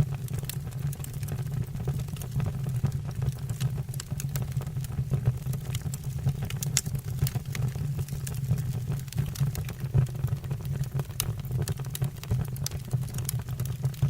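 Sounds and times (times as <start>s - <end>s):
firewood crackling: 0.0s - 14.0s
low fire rumble: 0.0s - 14.0s.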